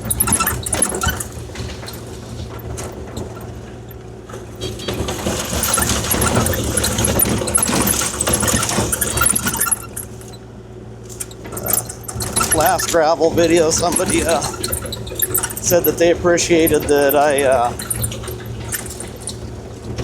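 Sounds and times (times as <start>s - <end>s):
excavator diesel engine running: 0.0s - 20.0s
gravel scraping and rattling: 0.0s - 20.0s.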